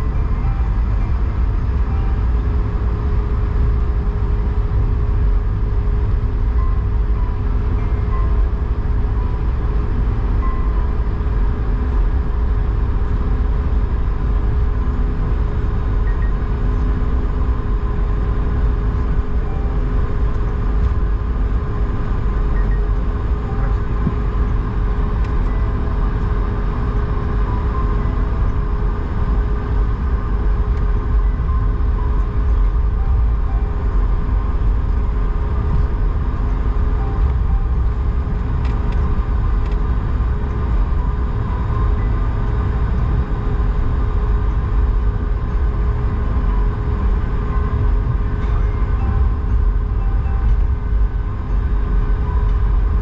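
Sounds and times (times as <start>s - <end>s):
jet engines idling rumble: 0.0s - 53.0s
steady cabin hum: 0.0s - 53.0s.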